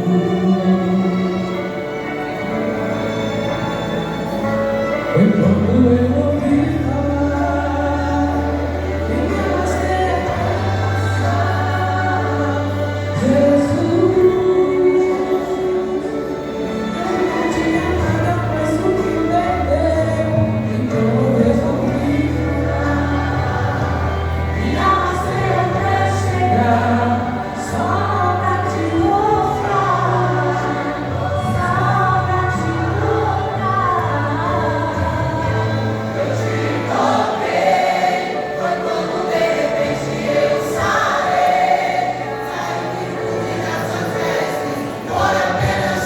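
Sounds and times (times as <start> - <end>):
group singing a hymn: 5.2 - 46.0.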